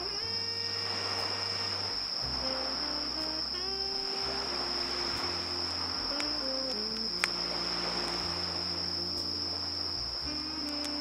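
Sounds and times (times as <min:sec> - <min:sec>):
crickets trilling: 0:00.0 - 0:11.0
gentle background music: 0:00.0 - 0:11.0.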